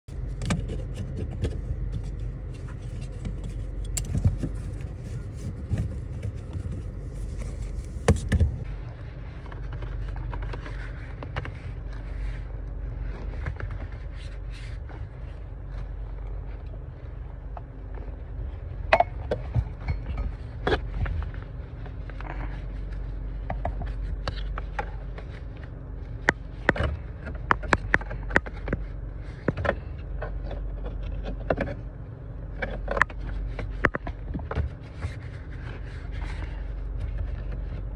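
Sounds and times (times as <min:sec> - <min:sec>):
steady low rumble: 0:00.0 - 0:37.9
clicks knocks and scrapes of handling: 0:00.1 - 0:08.7, 0:09.3 - 0:18.2, 0:18.9 - 0:37.9.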